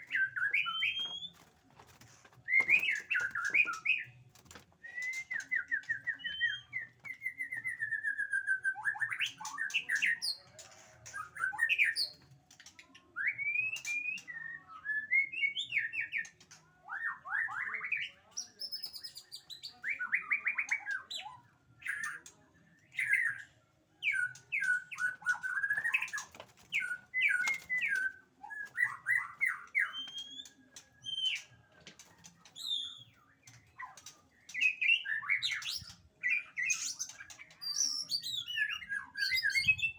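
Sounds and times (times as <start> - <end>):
songbird singing trills and whistles: 0.0 - 1.6, 2.4 - 39.9.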